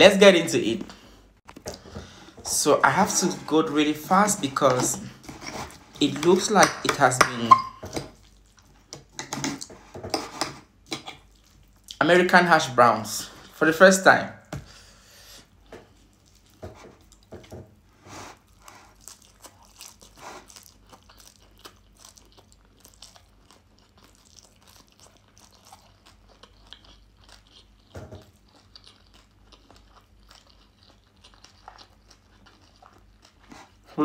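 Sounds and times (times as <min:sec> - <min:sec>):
person chewing crunchy food: 0:00.8 - 0:12.0, 0:14.6 - 0:34.0.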